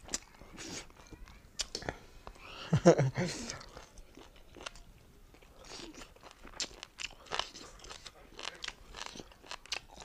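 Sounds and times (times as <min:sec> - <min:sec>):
close chewing with mouth clicks: 0:00.0 - 0:02.4, 0:03.4 - 0:10.0.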